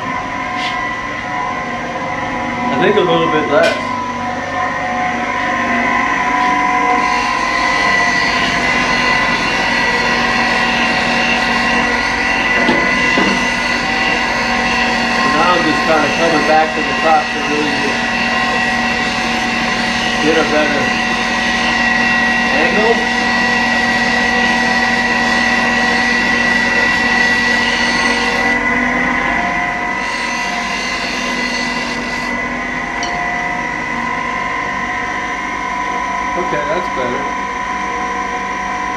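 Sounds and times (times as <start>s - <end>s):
electric machine humming: 0.0s - 38.9s.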